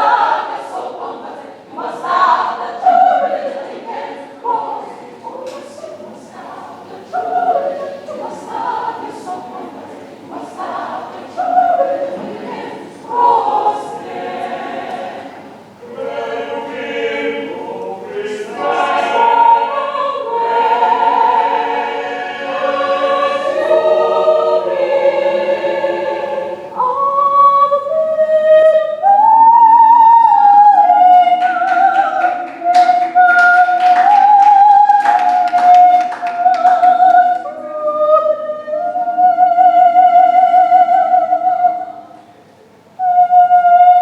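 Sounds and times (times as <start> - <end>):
choir singing in harmony: 0.0 - 42.4, 43.0 - 44.0.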